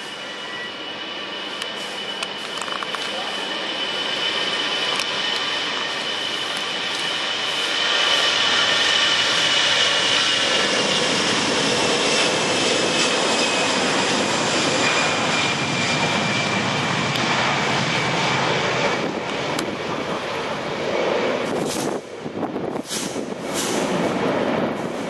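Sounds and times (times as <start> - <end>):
jet engine roar with whine: 0.0 - 25.0.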